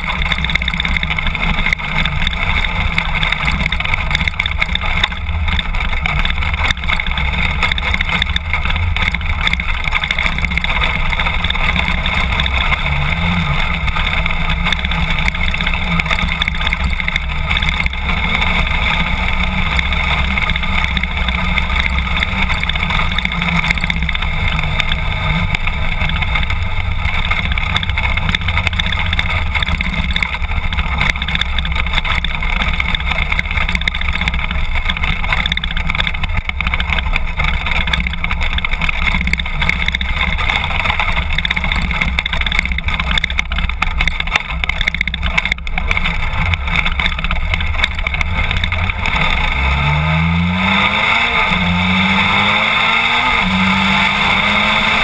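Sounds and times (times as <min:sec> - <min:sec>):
motorcycle engine running: 0:00.0 - 0:55.0
tyres on gravel: 0:00.0 - 0:55.0.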